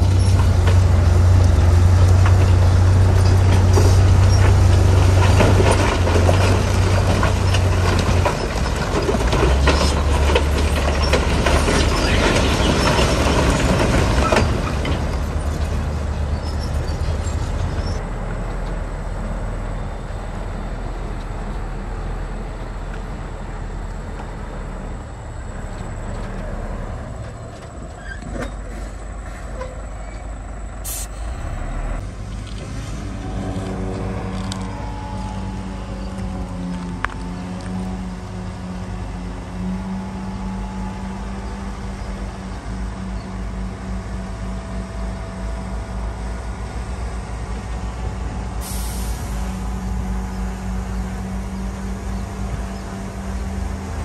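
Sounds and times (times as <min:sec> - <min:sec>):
heavy diesel engine running: 0:00.0 - 0:28.0, 0:28.6 - 0:54.0.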